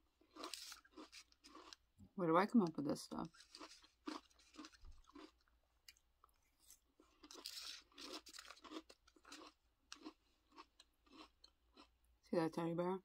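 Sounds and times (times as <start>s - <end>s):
chewing crunchy cereal: 0.2s - 2.0s, 2.6s - 12.0s.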